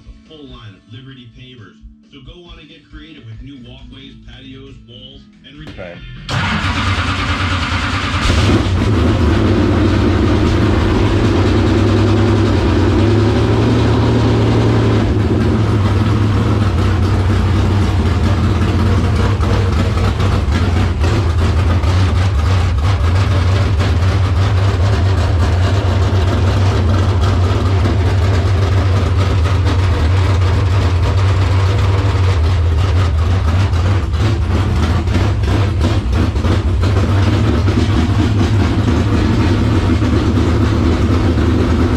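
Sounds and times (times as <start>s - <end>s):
race car engine idling: 6.3s - 41.9s.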